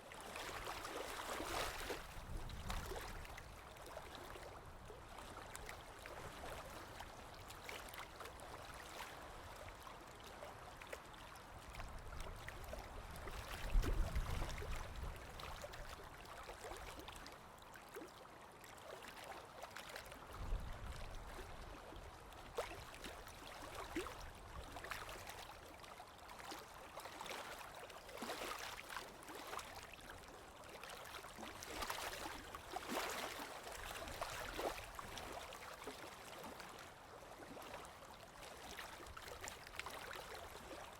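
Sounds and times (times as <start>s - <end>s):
stream water gurgling: 0.0s - 40.9s.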